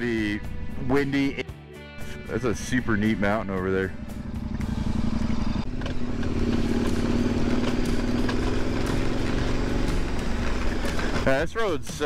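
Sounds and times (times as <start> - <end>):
motorcycle engine running: 2.2 - 12.0.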